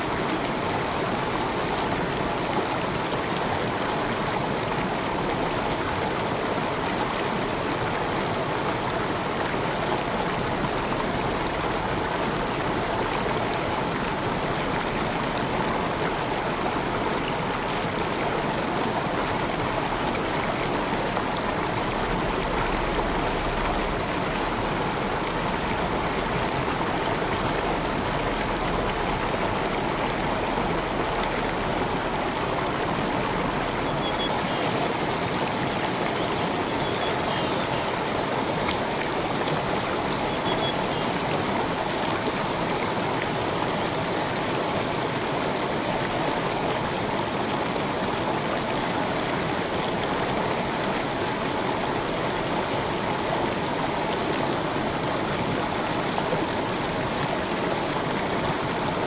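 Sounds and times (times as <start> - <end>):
river stream flowing: 0.0 - 59.0.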